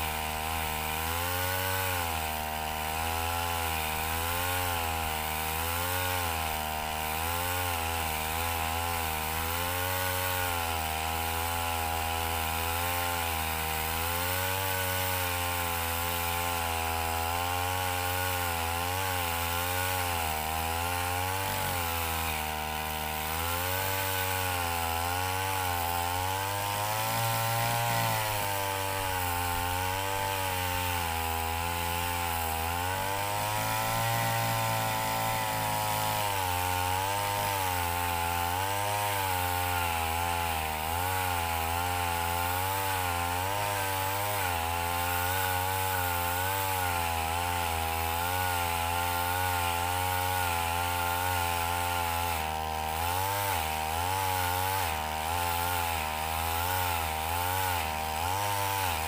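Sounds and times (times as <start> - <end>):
brush cutter engine cutting wood: 0.0 - 59.0.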